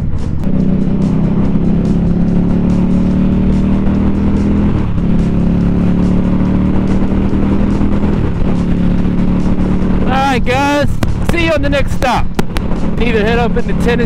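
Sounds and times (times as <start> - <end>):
motorcycle engine cruising: 0.0 - 14.0
road and wind noise: 0.0 - 14.0.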